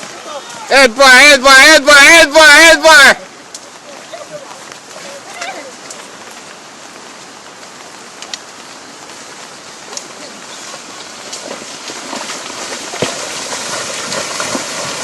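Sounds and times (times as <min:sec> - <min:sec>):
rain: 0:00.0 - 0:15.0
rushing floodwater: 0:00.0 - 0:15.0.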